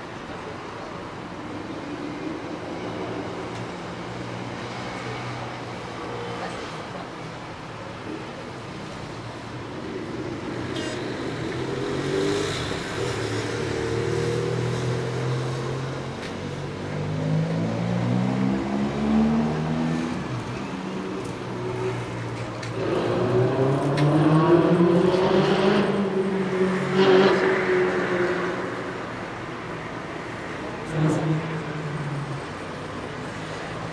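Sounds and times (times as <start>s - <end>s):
vehicle engines in traffic: 0.0s - 33.9s.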